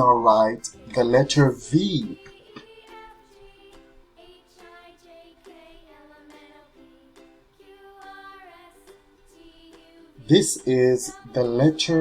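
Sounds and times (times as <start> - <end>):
soft plucked melody: 0.0 - 12.0.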